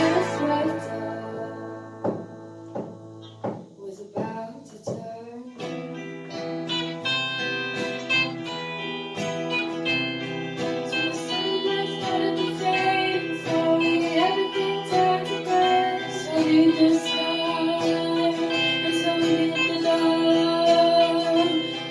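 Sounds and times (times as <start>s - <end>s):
plucked guitar music: 0.0s - 21.9s.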